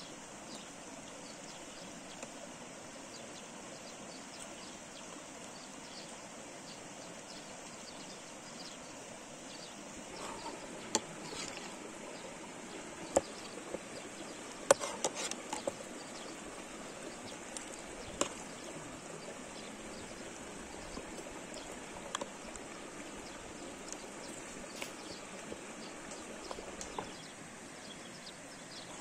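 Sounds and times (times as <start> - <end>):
outdoor background rush: 0.0 - 29.0.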